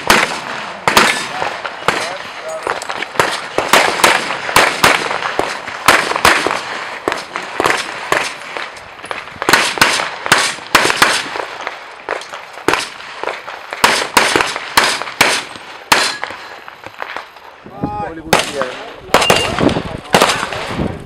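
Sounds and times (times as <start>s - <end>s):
rapid handgun shots: 0.0s - 16.5s, 18.3s - 20.8s.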